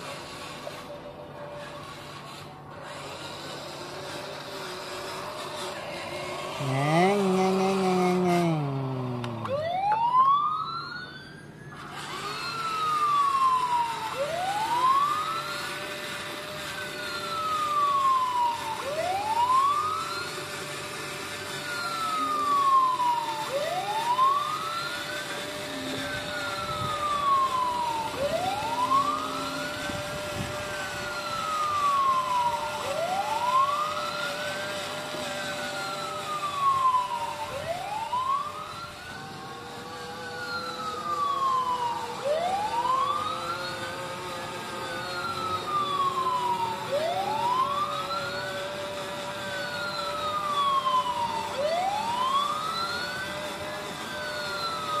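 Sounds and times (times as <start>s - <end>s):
electronic fire truck siren wailing: 0.0s - 55.0s.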